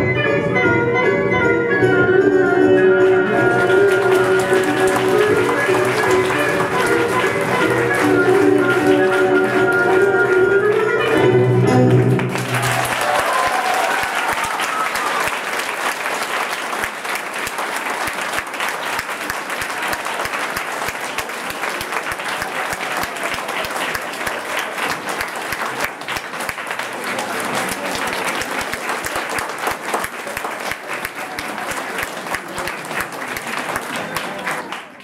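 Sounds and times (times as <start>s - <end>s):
audience applauding: 3.0s - 11.3s, 11.9s - 35.0s.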